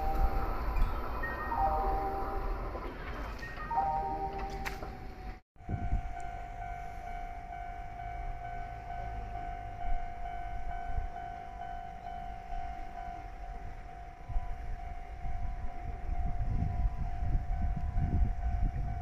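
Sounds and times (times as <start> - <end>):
level crossing alarm ringing: 0.0 - 19.0.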